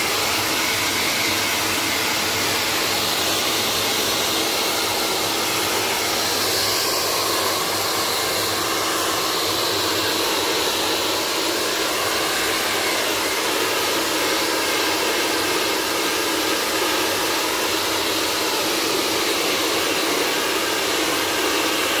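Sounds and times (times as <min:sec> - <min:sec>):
pet hair blower air rushing: 0:00.0 - 0:22.0.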